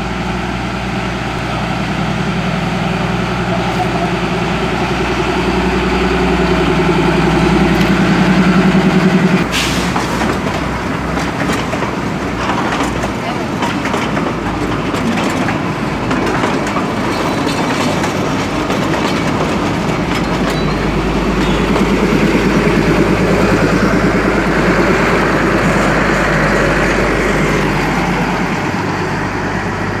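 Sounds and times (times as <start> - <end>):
train wheels clickety-clack: 3.4 - 30.0.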